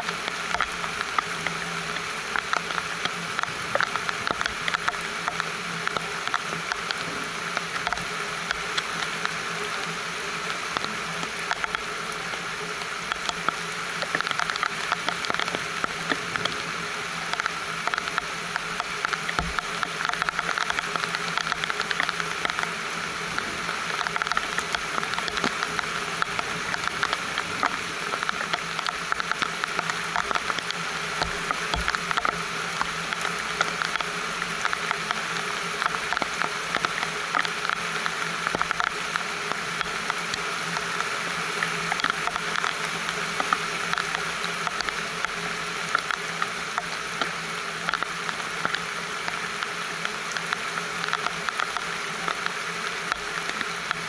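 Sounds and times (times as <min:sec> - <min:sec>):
rain pattering on plants: 0:00.0 - 0:54.0.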